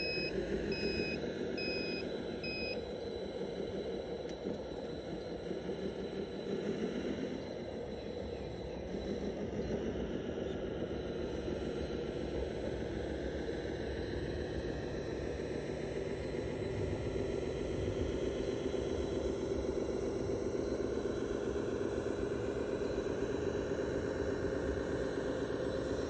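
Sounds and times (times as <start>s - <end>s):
electric motor and gears whining: 0.0s - 26.0s.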